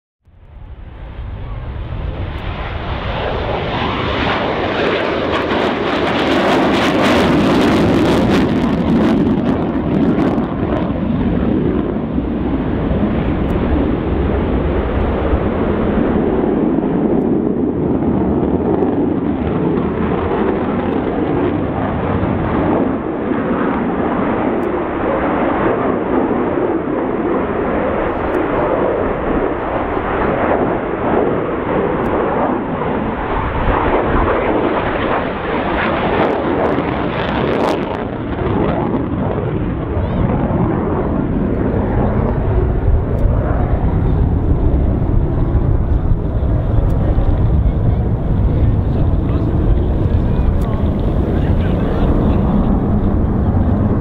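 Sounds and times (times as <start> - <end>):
jet aircraft passing overhead: 0.3 - 54.0.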